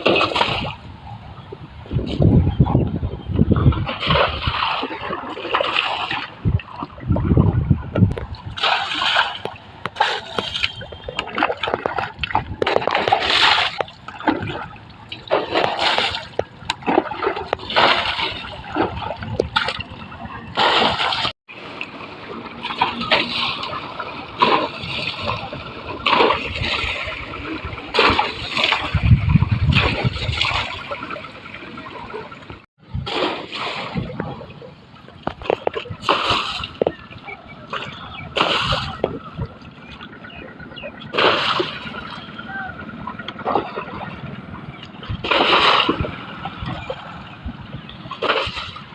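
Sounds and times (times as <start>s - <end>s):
water splashing: 0.0s - 1.0s, 1.9s - 48.9s.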